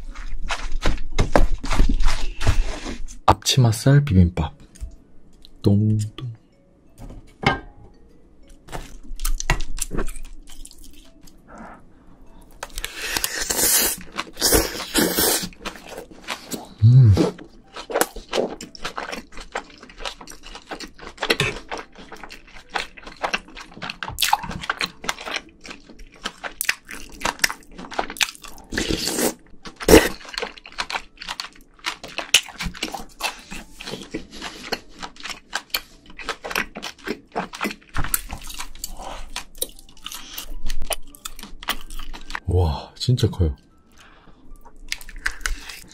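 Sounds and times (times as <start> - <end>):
person chewing food: 0.0 - 3.0, 8.4 - 11.7, 12.4 - 42.4, 43.7 - 45.9.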